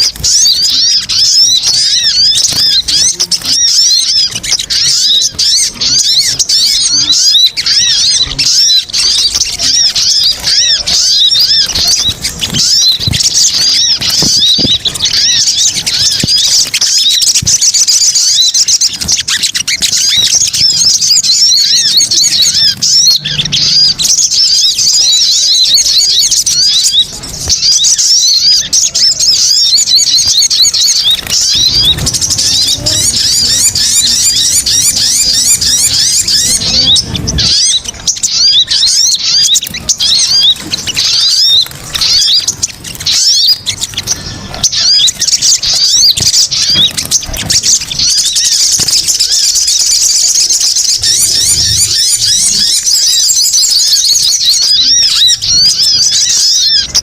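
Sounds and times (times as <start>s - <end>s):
birds chattering chirps: 0.0s - 57.0s.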